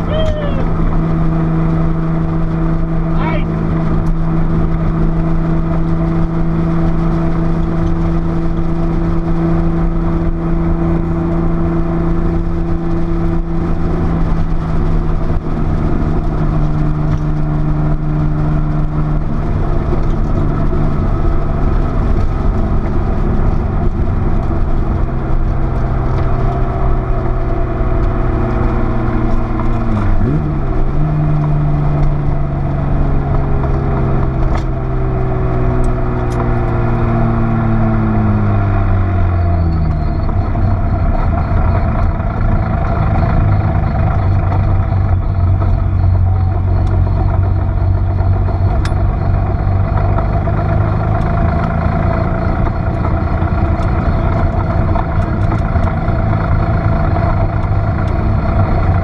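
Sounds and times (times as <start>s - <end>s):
sports car engine running hard: 0.0s - 59.0s.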